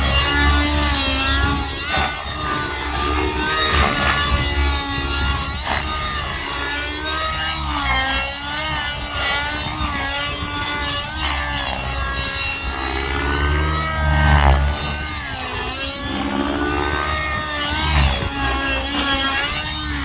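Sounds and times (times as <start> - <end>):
model helicopter engine at high revs: 0.0 - 20.0.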